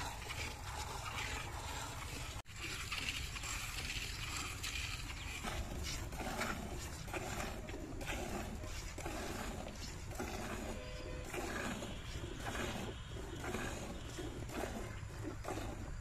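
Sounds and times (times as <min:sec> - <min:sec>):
milk squirting into metal pail: 0:00.0 - 0:16.0.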